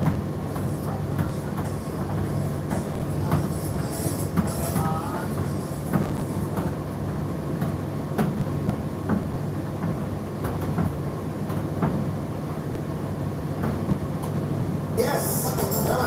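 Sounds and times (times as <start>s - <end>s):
tumble dryer motor hum: 0.0s - 16.0s.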